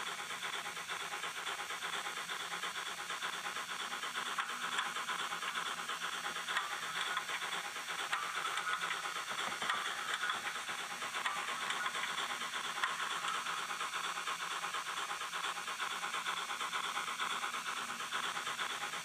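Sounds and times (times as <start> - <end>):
pulsing steam locomotive hiss: 0.0 - 19.0.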